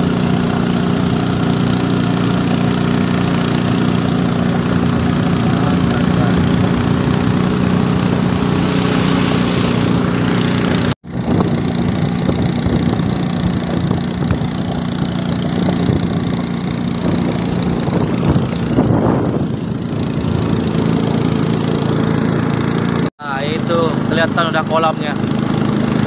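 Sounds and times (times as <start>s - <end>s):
small boat engine running: 0.0s - 26.0s.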